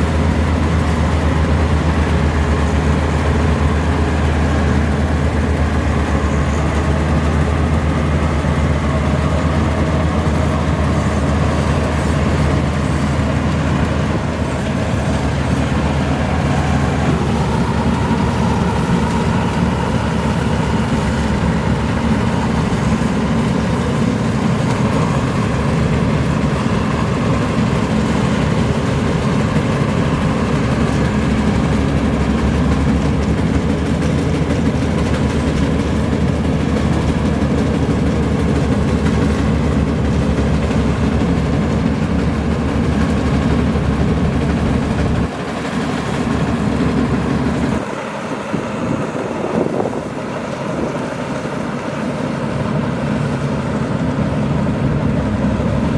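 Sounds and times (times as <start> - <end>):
combine harvester engine drone: 0.0 - 55.9.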